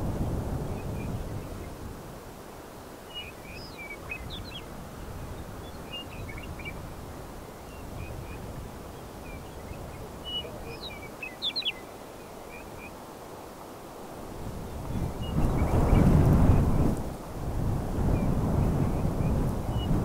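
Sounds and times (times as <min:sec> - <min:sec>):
songbirds chirping: 0:00.0 - 0:17.3, 0:18.0 - 0:20.0
low wind rumble: 0:00.0 - 0:20.0.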